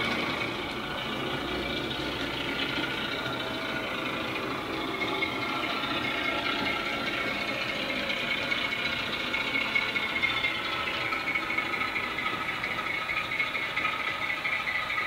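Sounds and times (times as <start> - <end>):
diesel engine sound from small speaker: 0.0 - 15.0
model train rattling on track: 0.0 - 15.0.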